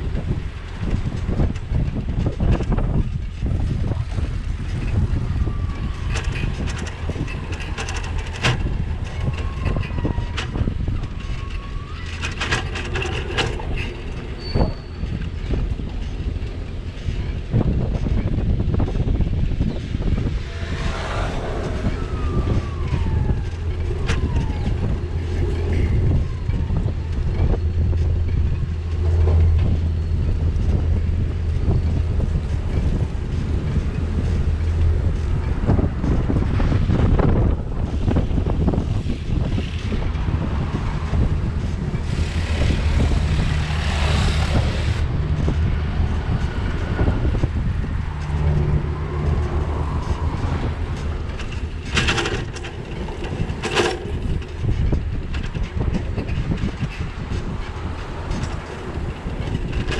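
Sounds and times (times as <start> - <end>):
bicycle tyres rumbling: 0.0 - 59.9
wind: 0.0 - 59.9
rattles and knocks: 0.2 - 59.9.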